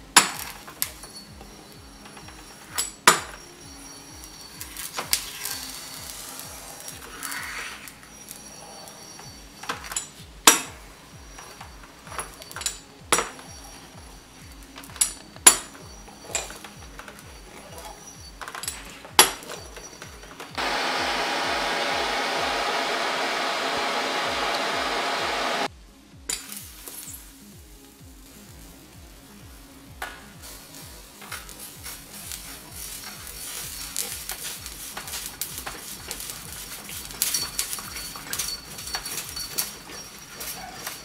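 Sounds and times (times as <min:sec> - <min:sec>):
loud steady hiss: 0:00.0 - 0:41.0.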